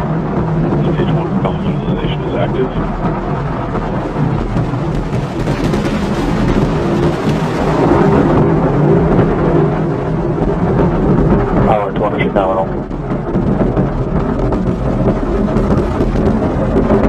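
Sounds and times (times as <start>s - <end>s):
rocket engines rumbling and crackling: 0.0s - 17.0s.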